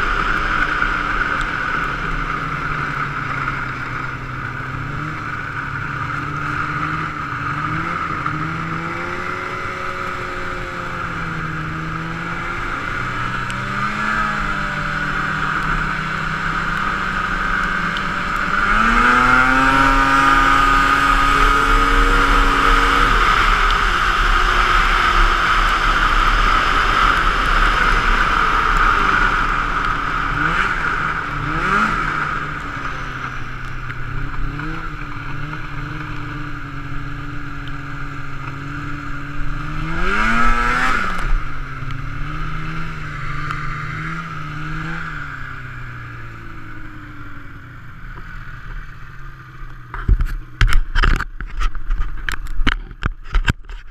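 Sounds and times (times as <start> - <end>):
snowmobile engine revving: 0.0 - 50.1.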